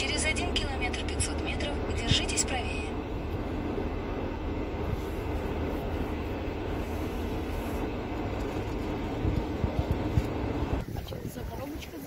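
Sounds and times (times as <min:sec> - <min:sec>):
road and tyre noise inside car: 0:00.0 - 0:12.0.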